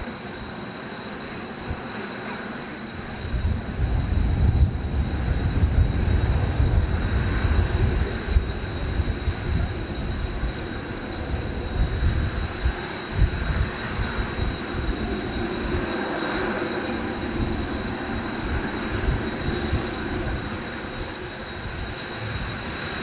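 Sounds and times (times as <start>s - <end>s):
jet aircraft noise: 0.0s - 23.0s
wind buffeting on microphone: 2.9s - 23.0s.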